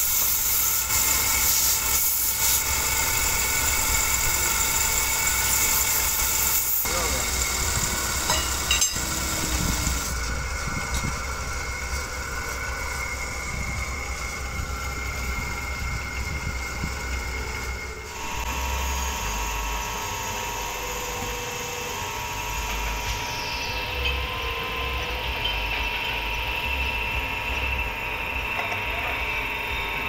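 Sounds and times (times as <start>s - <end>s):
wood lathe humming and whining: 0.0s - 30.0s.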